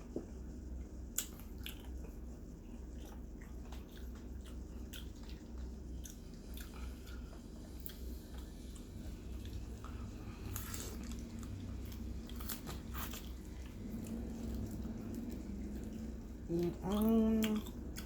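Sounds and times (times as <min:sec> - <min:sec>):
steady low hum: 0:00.0 - 0:18.0
person chewing crunchy chicken: 0:01.2 - 0:18.0.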